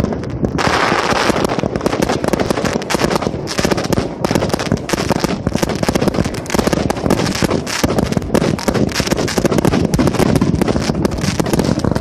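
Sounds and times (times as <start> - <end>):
fireworks rapid pops and crackling: 0.0 - 12.0.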